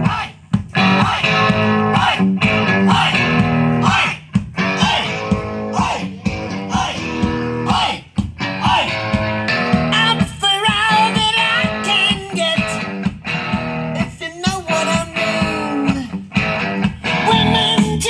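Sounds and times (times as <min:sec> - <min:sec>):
guitar music with singing over loudspeaker: 0:00.0 - 0:18.0.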